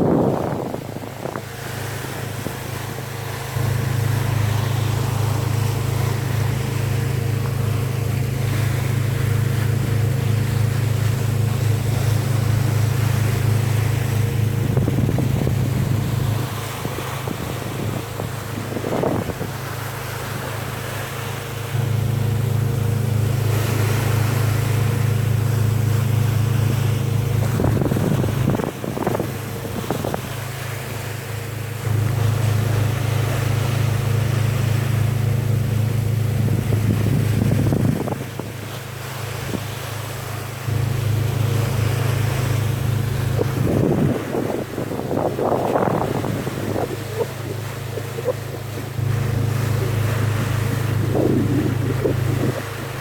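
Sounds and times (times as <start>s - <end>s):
wind on microphone: 0.0s - 20.8s, 21.7s - 53.0s
boat engine droning: 0.0s - 53.0s
sea noise: 0.0s - 53.0s.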